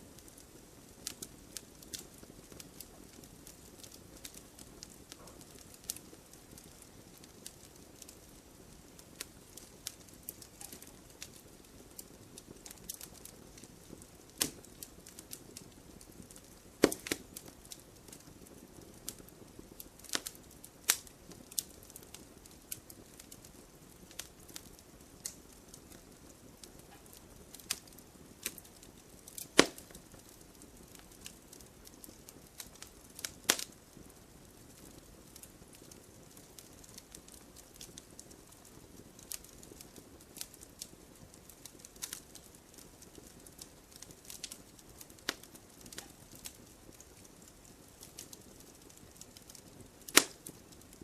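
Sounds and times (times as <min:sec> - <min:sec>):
soft steady hiss: 0:00.0 - 0:51.0
wood fire crackling: 0:00.0 - 0:51.0.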